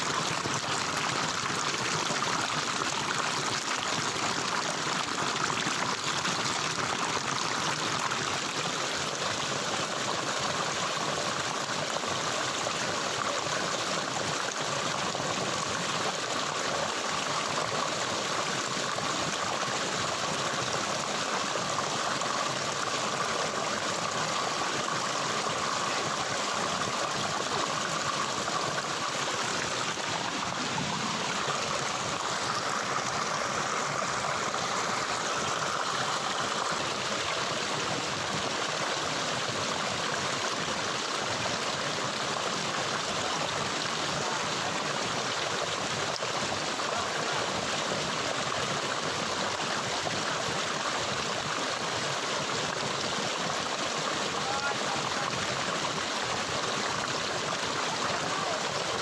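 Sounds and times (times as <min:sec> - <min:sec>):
stream water flowing: 0:00.0 - 0:59.0.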